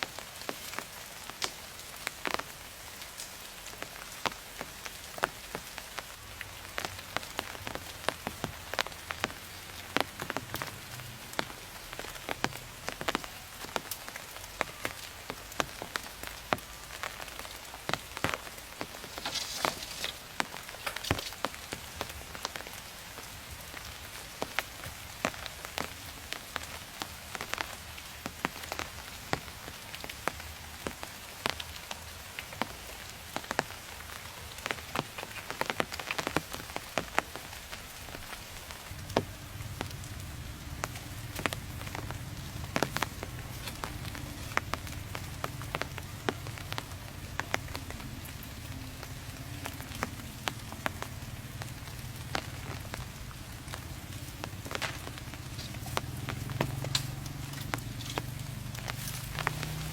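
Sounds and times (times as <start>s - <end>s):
raindrops ticking: 0.0s - 59.9s
soft rain hiss: 0.0s - 59.9s.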